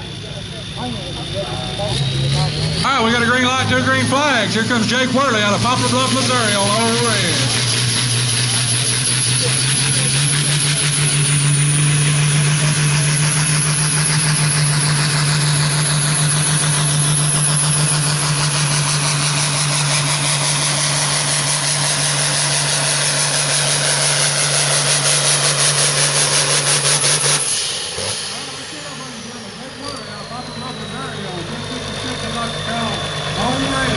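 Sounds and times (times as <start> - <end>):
tractor engine under full load: 0.0 - 33.9.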